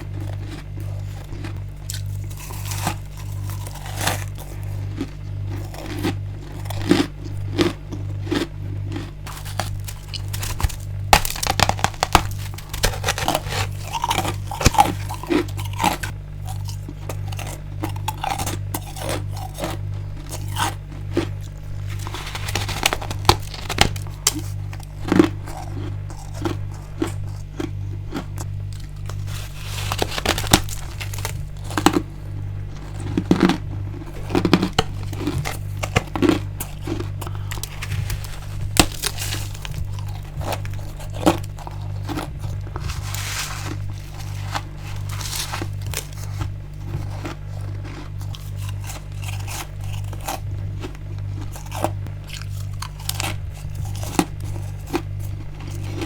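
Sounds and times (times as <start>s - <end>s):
crunching and chewing ice: 0.0s - 56.0s
steady low hum: 0.0s - 56.0s.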